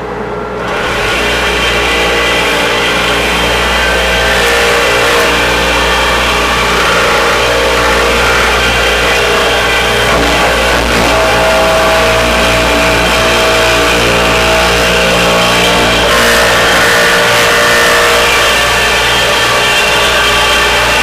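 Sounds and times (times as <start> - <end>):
orbital sander sanding wood floor: 0.6 - 21.0.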